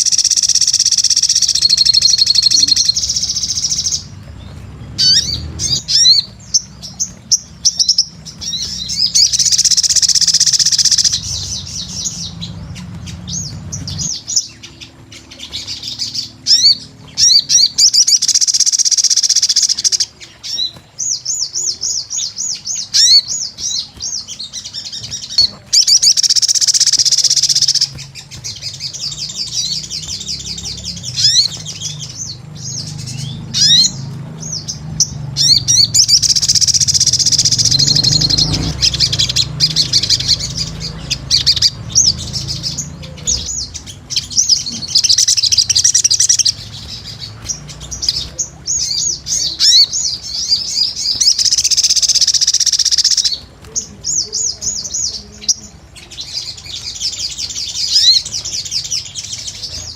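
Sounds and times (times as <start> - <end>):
bird twittering and trilling: 0.0 - 59.9.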